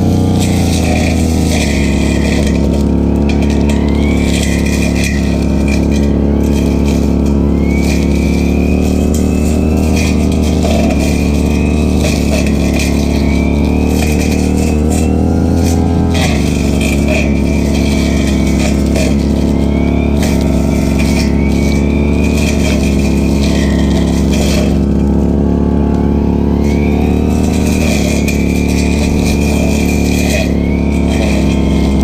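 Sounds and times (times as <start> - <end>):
brushcutter engine running: 0.0 - 32.0
whine of cutting grass: 0.0 - 32.0.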